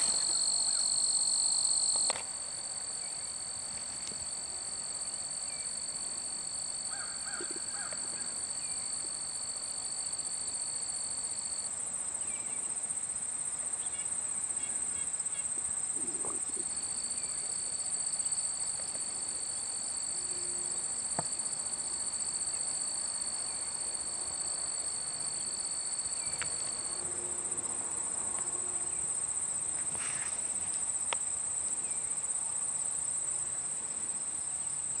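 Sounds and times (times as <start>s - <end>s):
high-pitched insect trill: 0.0s - 35.0s
lower insect trill: 0.0s - 35.0s.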